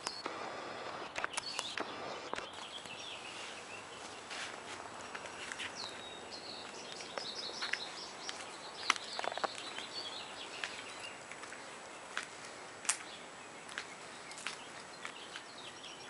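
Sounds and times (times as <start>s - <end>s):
outdoor background noise: 0.0s - 16.0s
small birds twittering: 0.0s - 16.0s.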